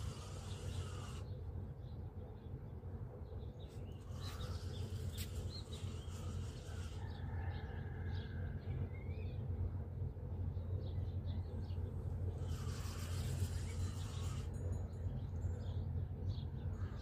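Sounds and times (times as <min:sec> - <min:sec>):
birds chirping and calling: 0:00.0 - 0:02.6, 0:03.4 - 0:09.6, 0:10.5 - 0:17.0.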